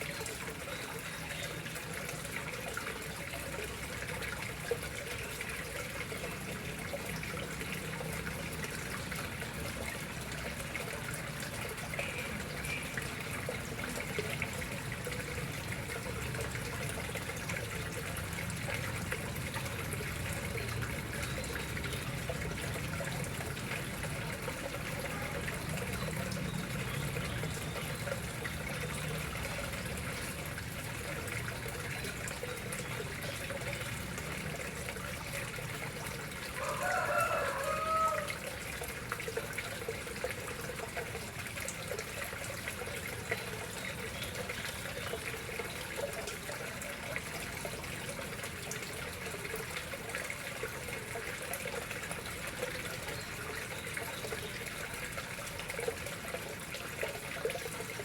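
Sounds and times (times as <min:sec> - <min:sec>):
water trickling into pond: 0:00.0 - 0:58.0.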